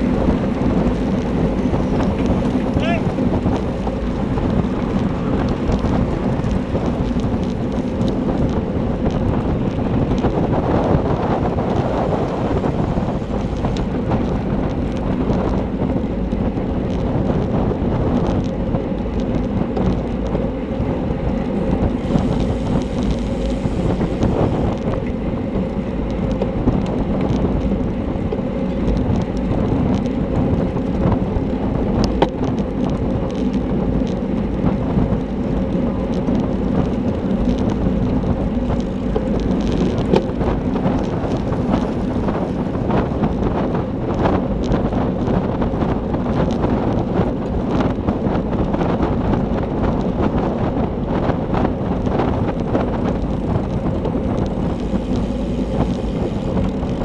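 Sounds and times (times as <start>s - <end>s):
bike tyres rumbling on road: 0.0s - 57.0s
wind buffeting microphone: 0.0s - 57.0s.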